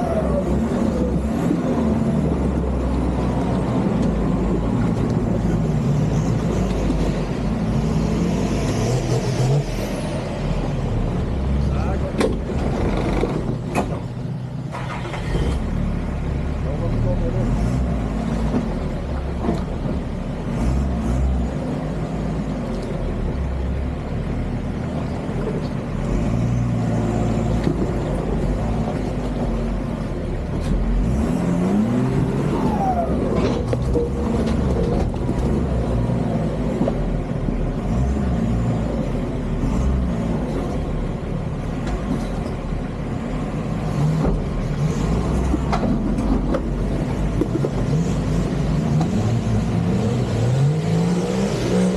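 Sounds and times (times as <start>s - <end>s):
engine running at low revs: 0.0s - 51.9s.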